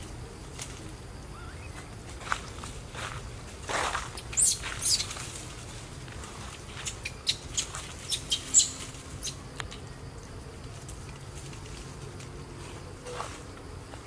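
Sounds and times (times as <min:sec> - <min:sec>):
leaves and branches rustling: 0:00.0 - 0:14.0.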